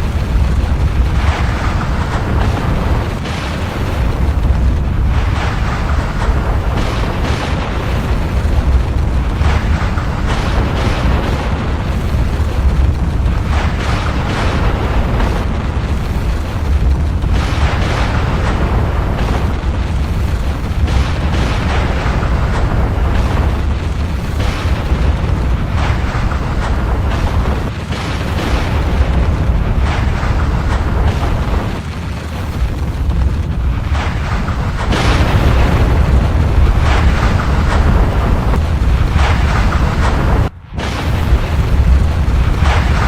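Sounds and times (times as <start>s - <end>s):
rushing noise surges: 0.0s - 43.0s
volcanic eruption rumble: 0.0s - 43.0s.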